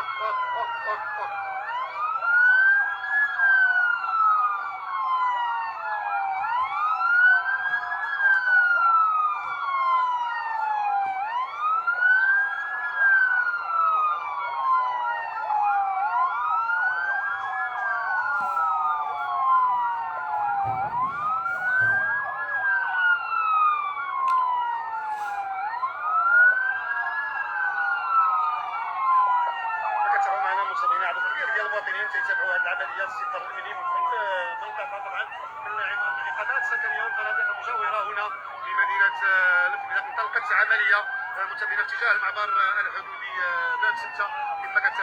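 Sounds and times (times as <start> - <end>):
emergency siren wailing: 0.0 - 45.0.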